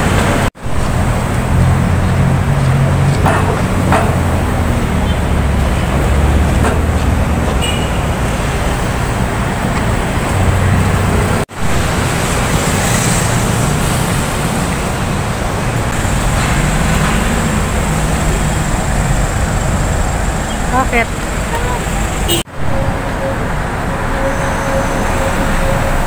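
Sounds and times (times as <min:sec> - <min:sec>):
cars and motorcycles passing: 0:00.0 - 0:26.0.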